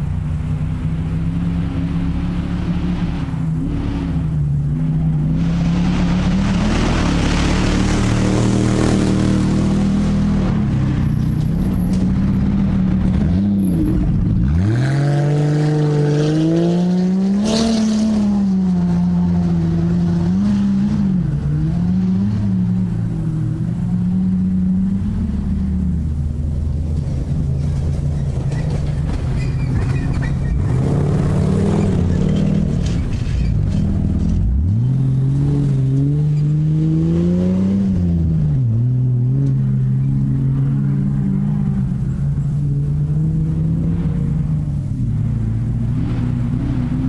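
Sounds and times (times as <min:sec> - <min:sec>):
race car engine revving: 0:00.7 - 0:47.0.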